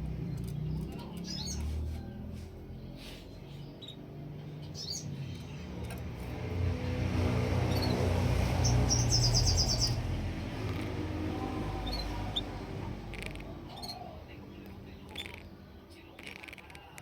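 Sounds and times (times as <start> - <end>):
songbird chirping and trilling: 0.0 - 17.0.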